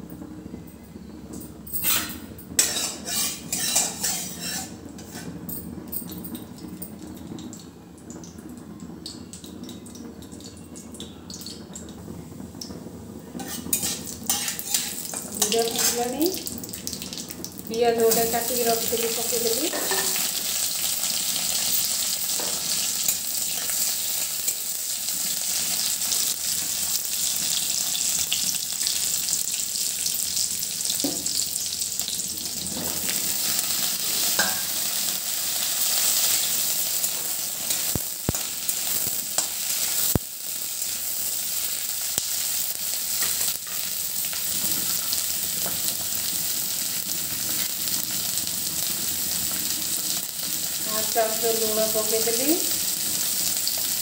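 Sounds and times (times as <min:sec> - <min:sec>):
onion sizzling in hot oil: 0:01.8 - 0:05.5, 0:12.4 - 0:54.0
eggplant frying: 0:01.8 - 0:54.0.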